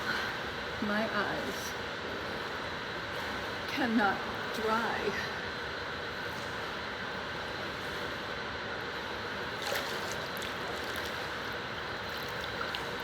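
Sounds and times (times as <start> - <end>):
rushing pool water: 0.0 - 13.0.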